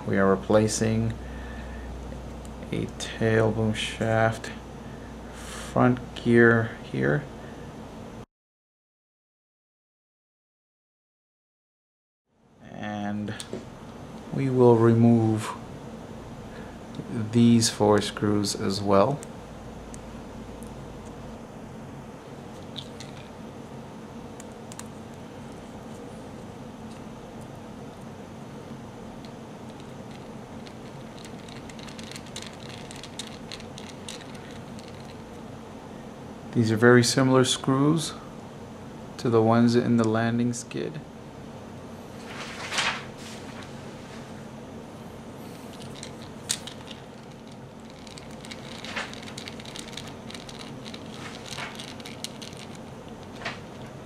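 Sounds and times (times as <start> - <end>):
low room hum: 0.0 - 8.3, 12.3 - 54.0.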